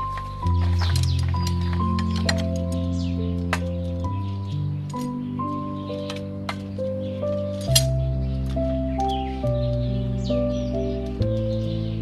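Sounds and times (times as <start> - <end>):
soft held chords music: 0.0 - 12.0.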